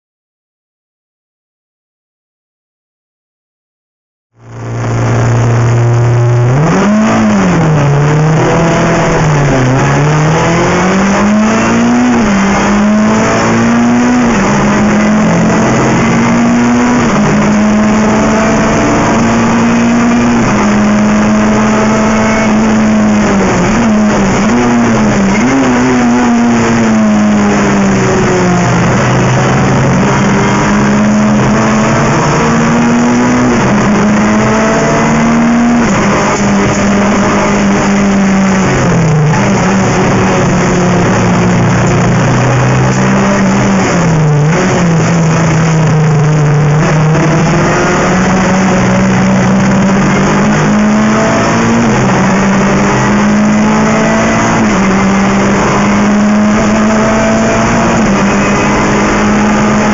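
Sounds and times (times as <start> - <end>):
race car engine accelerating: 4.4 - 59.9.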